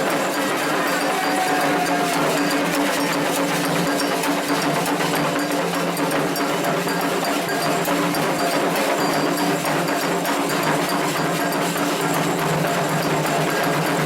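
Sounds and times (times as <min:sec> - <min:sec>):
drums playing fast rhythm: 0:00.0 - 0:14.0.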